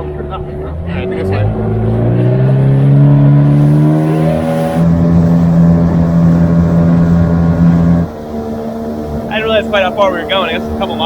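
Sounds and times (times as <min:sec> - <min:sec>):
outboard motor throttling up: 0:00.0 - 0:11.0.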